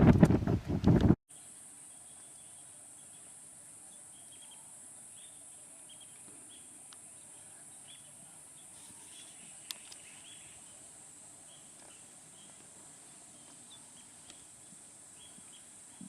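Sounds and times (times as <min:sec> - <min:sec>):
bird chirps: 0:01.4 - 0:16.0.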